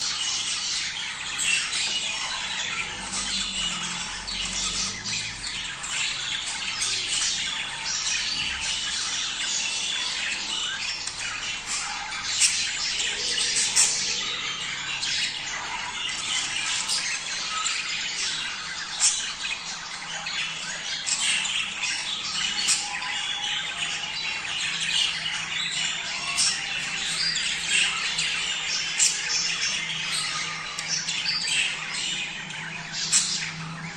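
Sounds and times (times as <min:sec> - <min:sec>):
flock of budgerigars chattering: 0:00.0 - 0:33.9.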